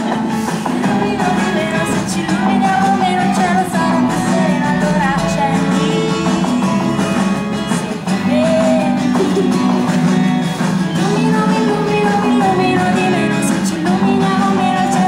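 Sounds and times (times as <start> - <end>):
person singing: 0.0 - 15.0
pop song with acoustic guitar: 0.0 - 15.0.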